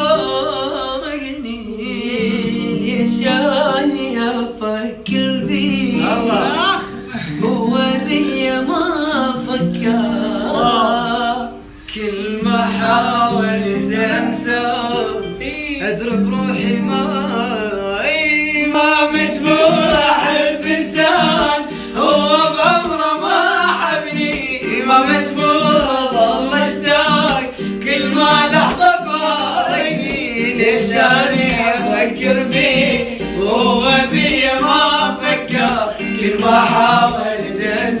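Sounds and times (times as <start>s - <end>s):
instrumental backing: 0.0s - 38.0s
person singing: 0.0s - 38.0s.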